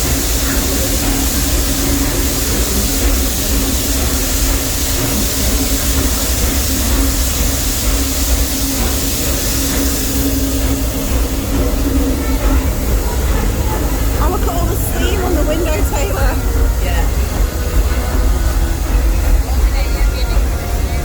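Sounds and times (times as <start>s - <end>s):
steady hum: 0.0s - 21.0s
train cars rolling on track: 0.0s - 21.0s.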